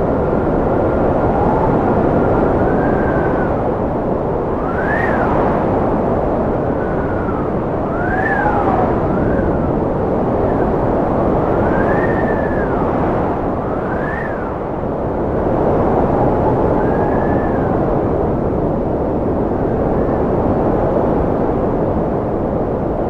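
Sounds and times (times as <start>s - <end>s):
wind whistling gliding pitch: 0.0s - 21.1s
strong wind rushing: 0.0s - 23.0s.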